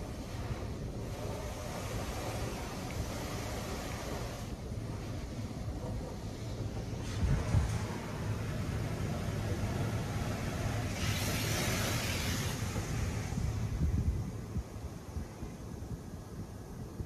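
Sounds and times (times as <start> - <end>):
water spray hissing over glass: 0.0 - 13.8
car wash low rumble: 0.0 - 17.0.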